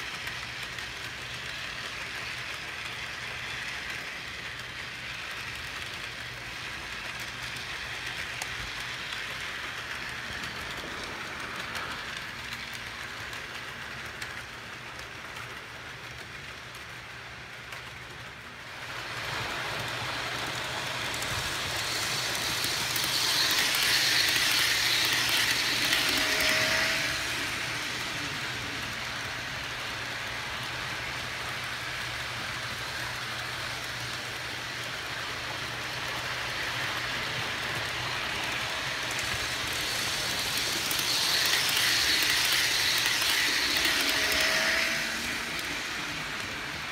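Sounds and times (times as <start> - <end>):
model train wheels whirring: 0.0 - 46.9.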